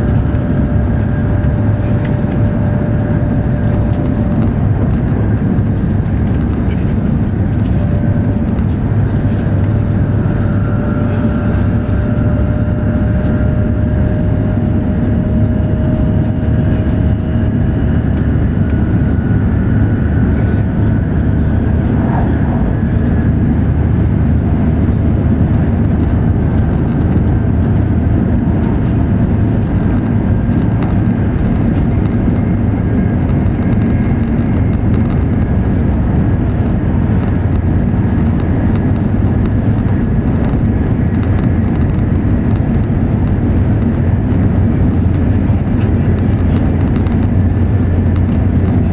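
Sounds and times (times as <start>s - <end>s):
train wheels and air rumble: 0.0s - 48.9s.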